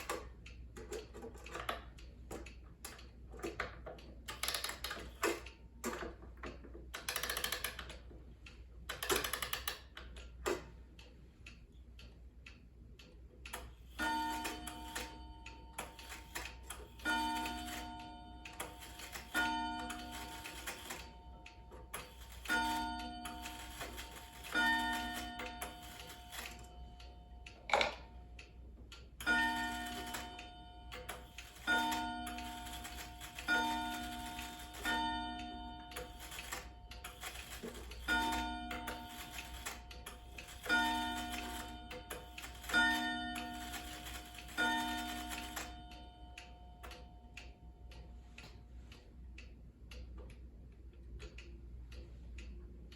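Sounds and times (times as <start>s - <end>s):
clock striking: 0.0s - 8.0s, 8.9s - 10.7s, 13.5s - 48.1s
clock ticking: 0.0s - 52.9s.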